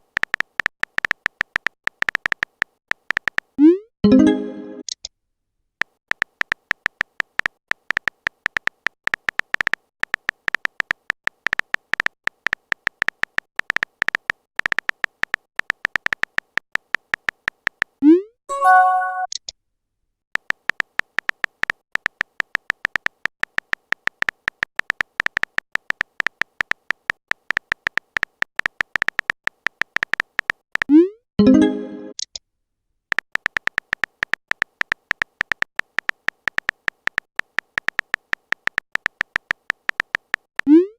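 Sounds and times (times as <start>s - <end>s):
phone keyboard clicking: 0.0s - 3.5s, 5.8s - 18.0s, 20.4s - 30.9s, 33.1s - 40.5s.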